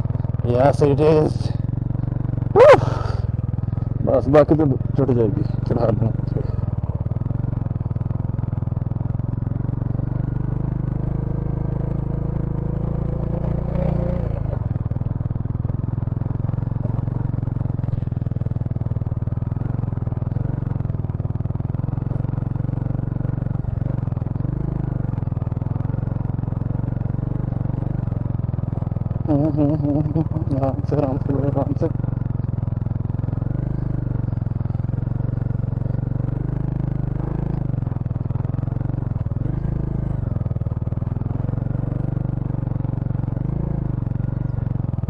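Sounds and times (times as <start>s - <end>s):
motorcycle engine climbing: 0.0s - 45.0s.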